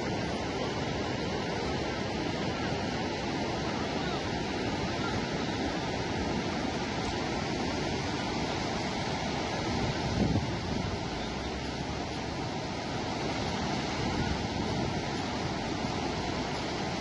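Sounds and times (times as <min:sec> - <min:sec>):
flood water rushing: 0:00.0 - 0:17.0.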